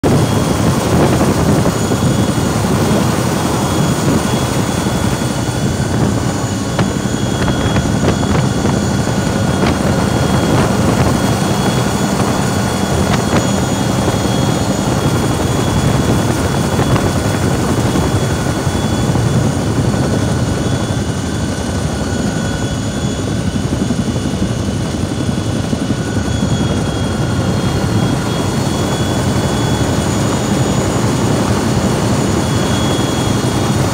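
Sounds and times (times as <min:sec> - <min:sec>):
helicopter engine and rotor: 0:00.0 - 0:33.9
high steady whine: 0:00.0 - 0:33.9.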